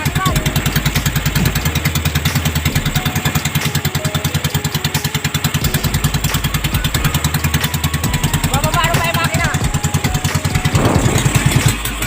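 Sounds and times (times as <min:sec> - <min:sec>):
small boat engine putt-putt: 0:00.0 - 0:12.0.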